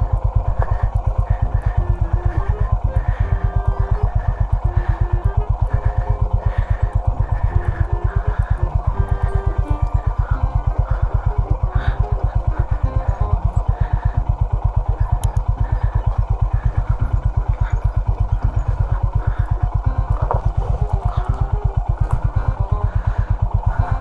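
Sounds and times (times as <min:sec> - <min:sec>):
light mechanical clatter: 0:00.0 - 0:24.0
motorcycle engine running: 0:00.0 - 0:24.0.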